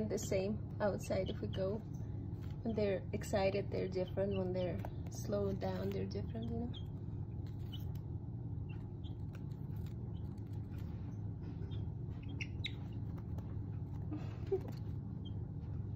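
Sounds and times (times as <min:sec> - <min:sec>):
low background hum: 0:00.0 - 0:15.9
chicks peeping: 0:00.1 - 0:15.9.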